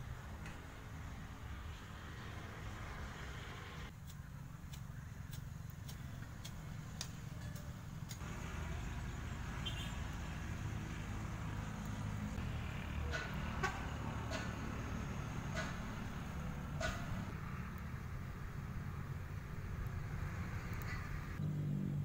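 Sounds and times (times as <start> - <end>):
road traffic rumble: 0.0 - 22.0
vehicle approaching: 0.0 - 22.0.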